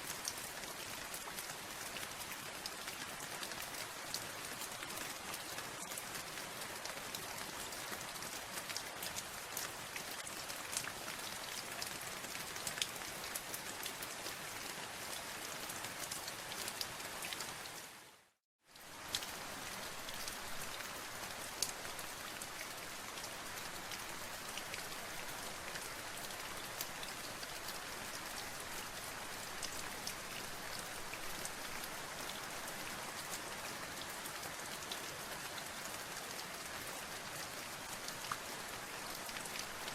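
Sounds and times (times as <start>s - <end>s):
steady rain with ticking drops: 0.0s - 39.9s.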